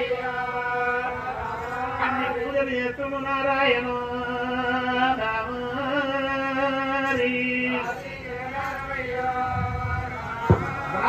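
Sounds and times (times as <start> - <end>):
man singing long held notes: 0.0 - 11.0.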